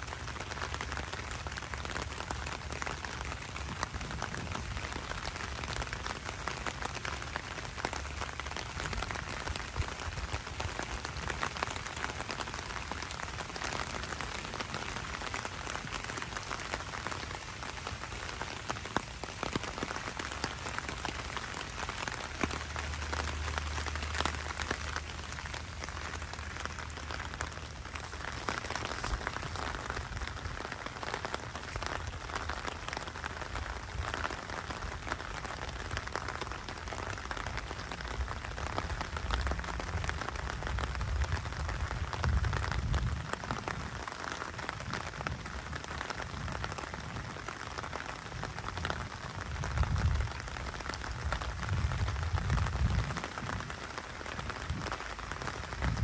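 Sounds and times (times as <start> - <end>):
rain falling on a wet street: 0.0 - 56.0.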